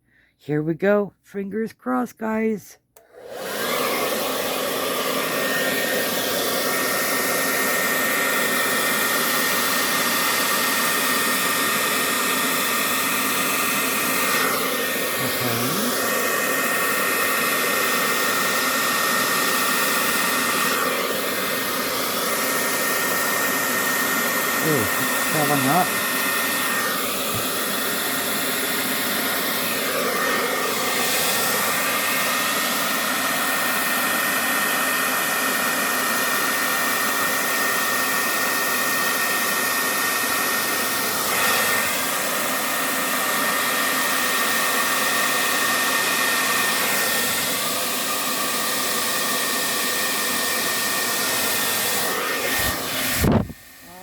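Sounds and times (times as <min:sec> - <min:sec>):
electric blower whining: 0:02.9 - 0:54.0.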